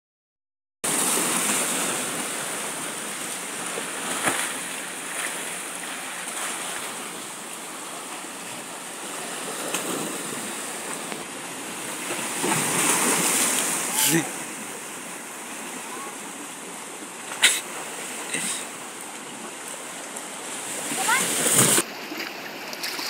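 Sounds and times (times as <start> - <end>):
waves washing against concrete: 0.8 - 23.0.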